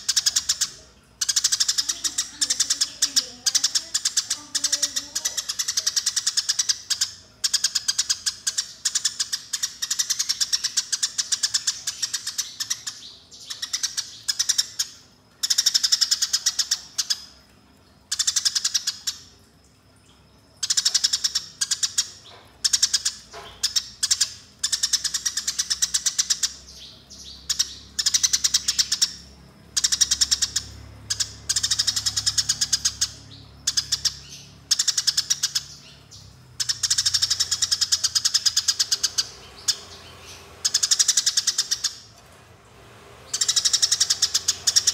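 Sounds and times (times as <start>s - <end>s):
sparrow chattering: 0.0s - 17.2s, 20.6s - 29.2s, 29.8s - 35.9s, 36.6s - 42.1s, 43.3s - 44.9s.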